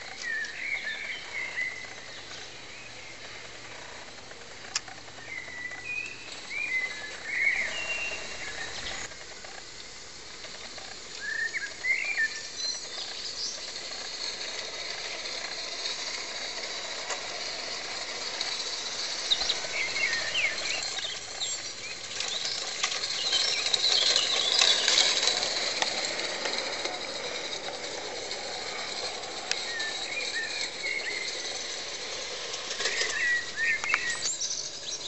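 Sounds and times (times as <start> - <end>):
birds chirping: 0.0 - 35.0
steam locomotive clicking and hissing: 0.0 - 35.0.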